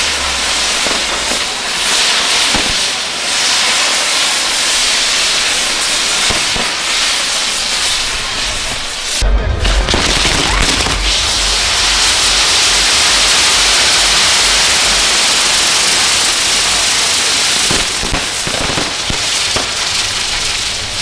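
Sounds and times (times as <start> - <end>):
fireworks crackling pops: 0.0 - 21.0
fireworks hissing spray: 0.0 - 21.0.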